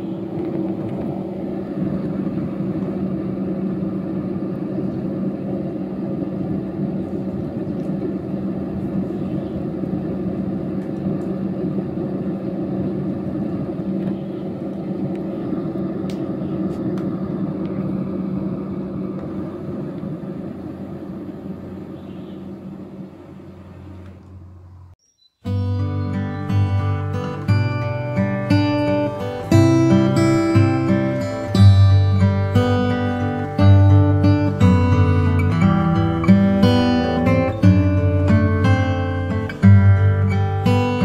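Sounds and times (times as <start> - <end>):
electric fan motor humming: 0.0 - 41.0.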